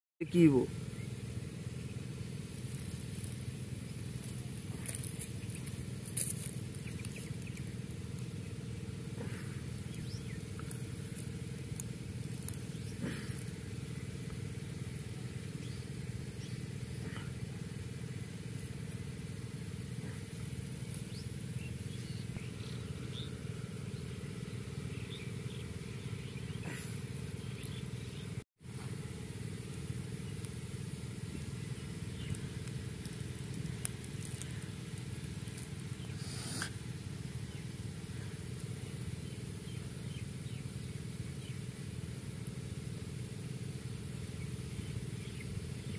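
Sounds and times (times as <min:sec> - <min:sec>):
motor running steadily: 0:00.2 - 0:45.9.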